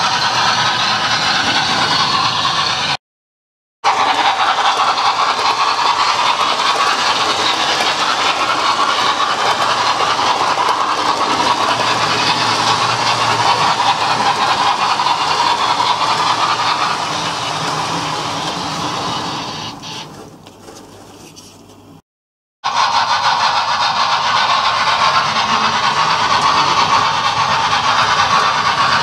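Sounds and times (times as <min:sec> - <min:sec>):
model train whirring on track: 0:00.0 - 0:03.0, 0:03.8 - 0:20.8, 0:22.6 - 0:29.0.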